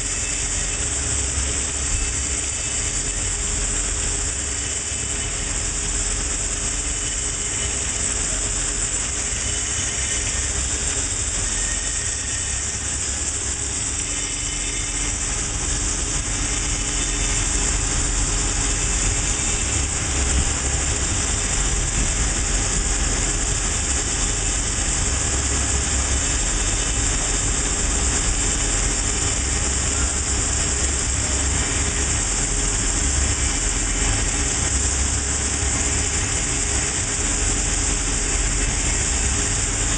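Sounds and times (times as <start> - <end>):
grinding wheel hissing on metal: 0.0 - 39.9
low machine hum: 0.0 - 39.9.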